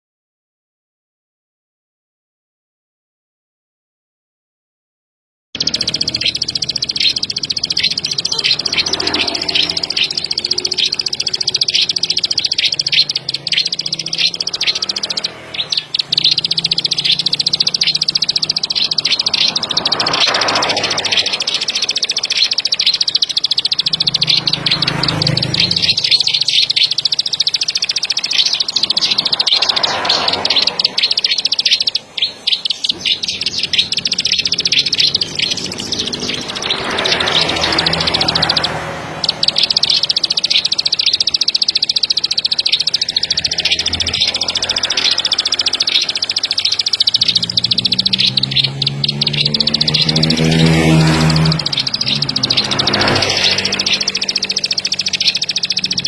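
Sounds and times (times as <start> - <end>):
bird buzzy ticking song: 5.6 - 56.0.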